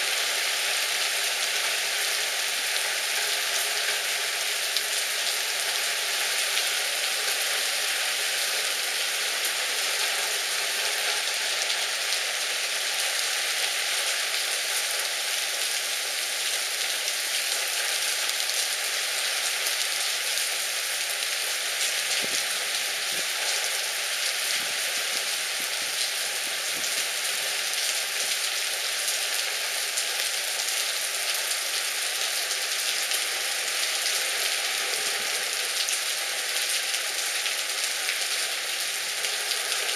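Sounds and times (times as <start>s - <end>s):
heavy rain on paving and cars: 0.0s - 39.9s.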